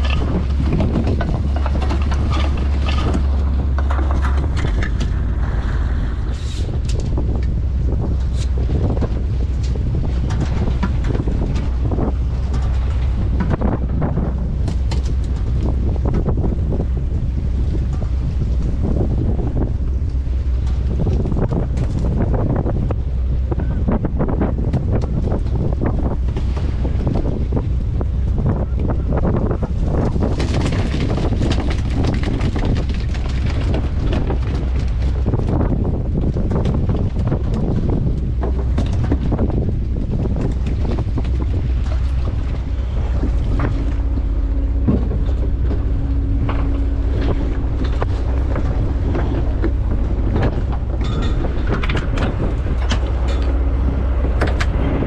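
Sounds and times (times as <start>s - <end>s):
boat engine humming: 0.0s - 55.0s
wind on microphone: 0.0s - 55.0s.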